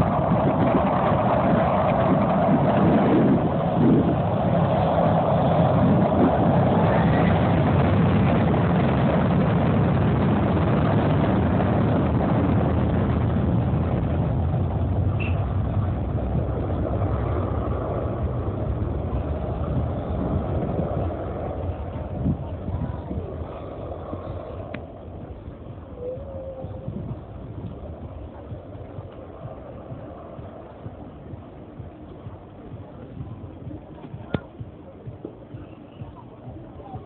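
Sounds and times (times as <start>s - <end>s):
jet engines at takeoff: 0.0s - 37.0s.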